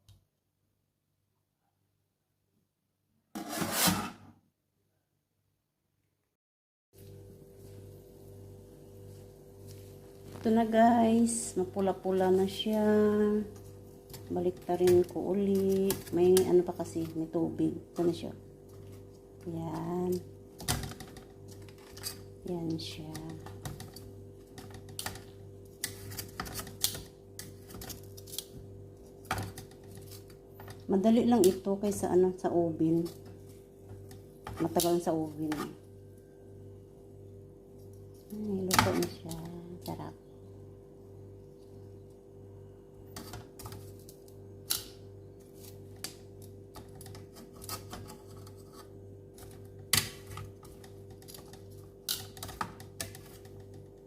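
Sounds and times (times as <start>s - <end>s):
steady low hum: 7.0s - 54.0s.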